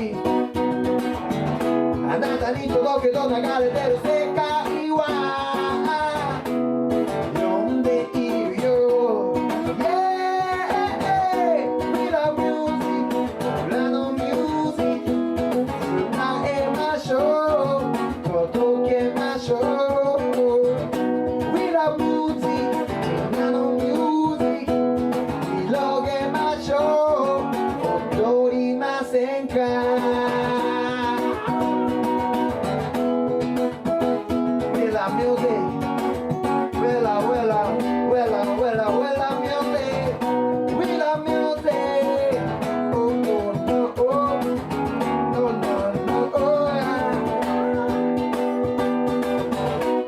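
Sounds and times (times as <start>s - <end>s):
acoustic guitar: 0.0s - 50.0s
man singing: 0.0s - 50.0s.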